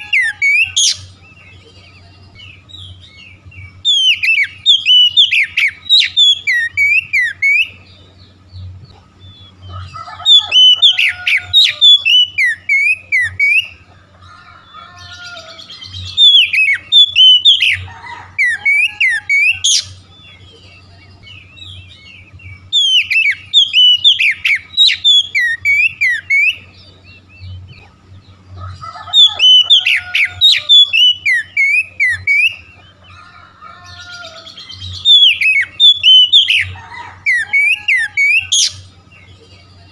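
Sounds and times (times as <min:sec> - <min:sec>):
bird singing whistled notes: 0:00.0 - 0:13.8, 0:15.0 - 0:28.4, 0:29.0 - 0:33.0, 0:33.9 - 0:38.9.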